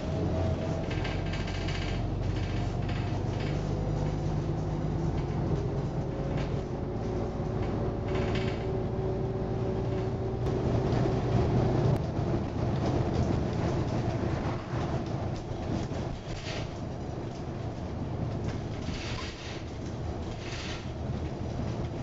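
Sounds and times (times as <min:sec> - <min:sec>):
bus diesel engine drone: 0:00.0 - 0:22.0
road noise: 0:00.0 - 0:22.0.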